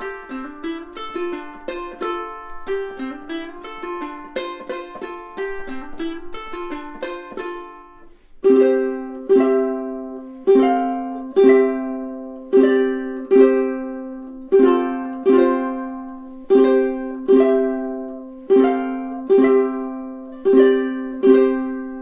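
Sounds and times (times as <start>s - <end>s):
ukulele fingerpicked notes: 0.0s - 22.0s
ukulele strummed chords: 0.0s - 22.0s.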